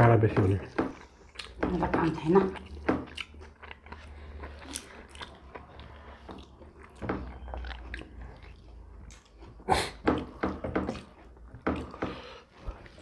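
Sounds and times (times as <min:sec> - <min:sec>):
chewing and lip-smacking: 0:00.9 - 0:13.0.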